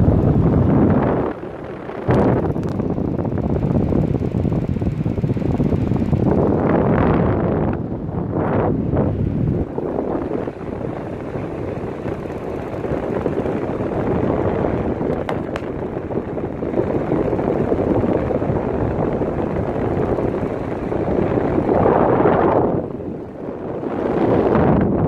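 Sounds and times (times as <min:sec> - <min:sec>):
air conditioner blower fan: 0:00.0 - 0:25.0.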